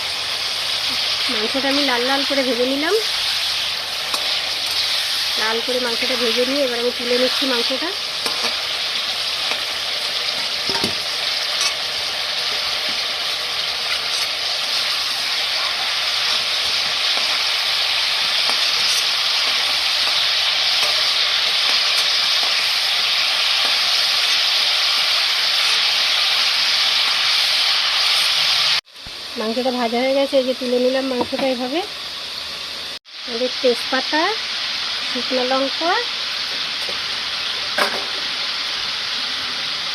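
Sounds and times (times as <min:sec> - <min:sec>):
chicken sizzling in oil: 0:00.0 - 0:39.9.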